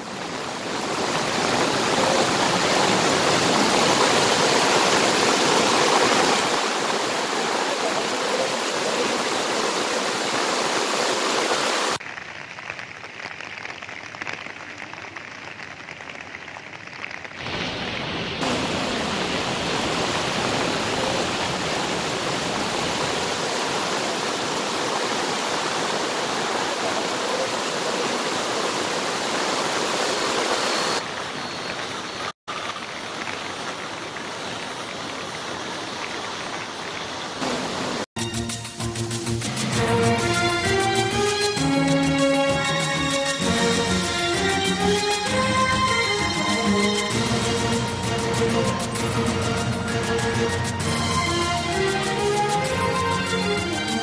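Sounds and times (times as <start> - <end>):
floodwater rushing: 0.0 - 38.1, 39.0 - 54.0.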